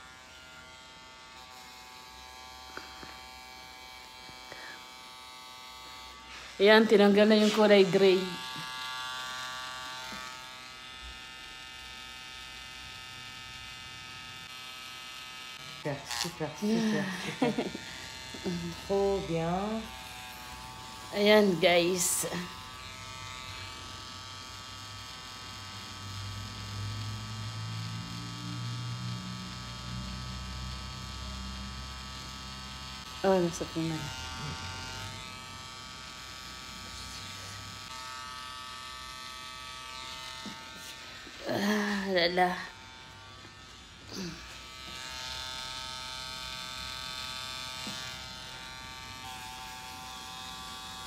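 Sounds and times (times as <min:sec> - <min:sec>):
tattoo pen buzzing: 0:00.0 - 0:51.0.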